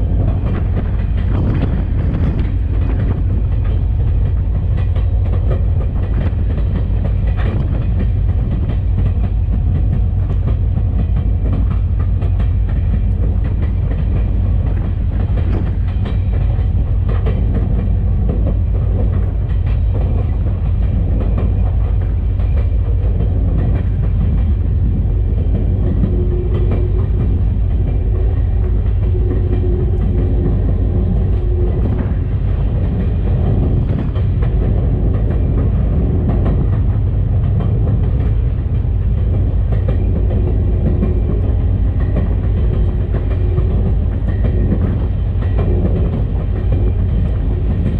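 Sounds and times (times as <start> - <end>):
diesel locomotive rumbling: 0.0 - 47.9.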